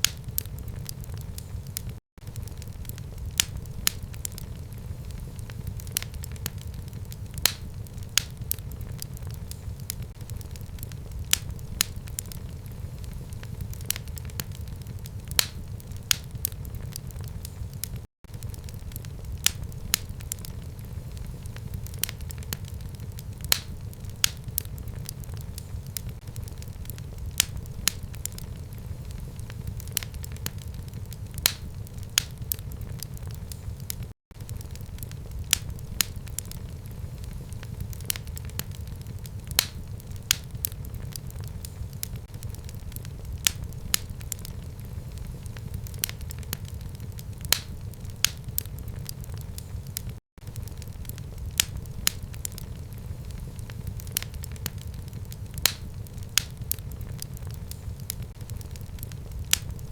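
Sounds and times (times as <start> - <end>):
fire crackling and popping: 0.0 - 59.9
fire rumbling in fireplace: 0.0 - 59.9.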